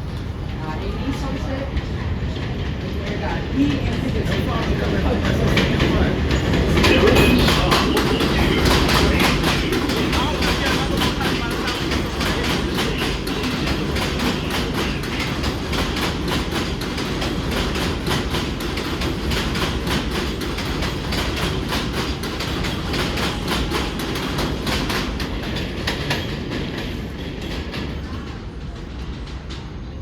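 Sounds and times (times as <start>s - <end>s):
subway train rumble: 0.0s - 30.0s
train wheels clicking over rail joints: 1.7s - 29.8s.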